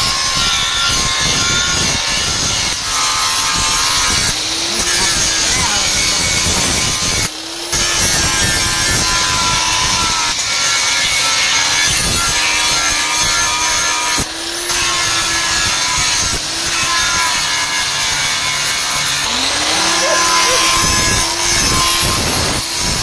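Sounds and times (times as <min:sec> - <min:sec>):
angle grinder grinding steel: 0:00.0 - 0:23.0.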